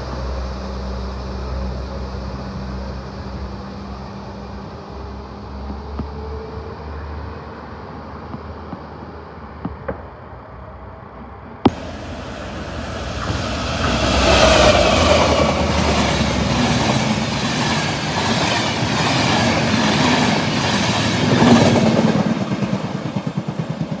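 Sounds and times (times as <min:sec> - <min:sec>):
diesel train passing at speed: 0:00.0 - 0:24.0.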